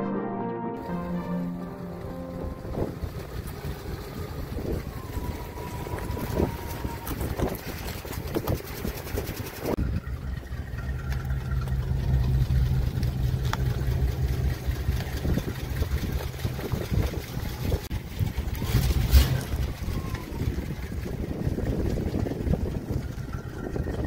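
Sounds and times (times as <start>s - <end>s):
car engine idling: 1.0s - 24.0s.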